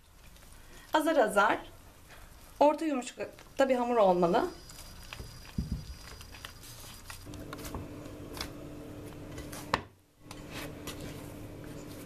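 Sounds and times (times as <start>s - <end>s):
hands kneading dough: 2.0s - 12.0s.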